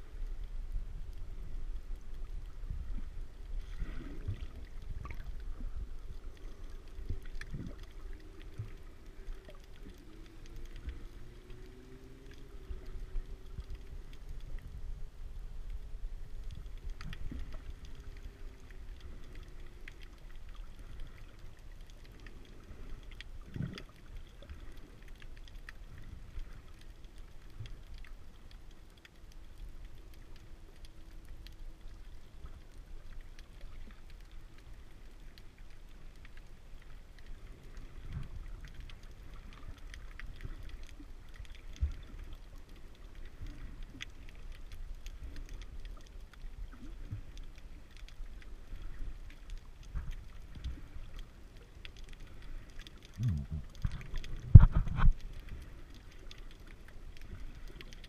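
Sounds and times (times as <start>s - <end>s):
faint clicks and crackles: 0.0s - 58.0s
faint steady hum: 0.0s - 58.0s
low underwater rumble: 0.0s - 58.0s.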